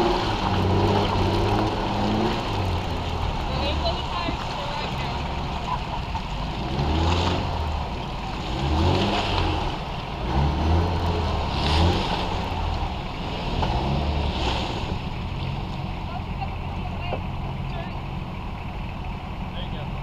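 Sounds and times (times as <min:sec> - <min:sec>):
engine revving: 0:00.0 - 0:05.6, 0:06.4 - 0:18.2.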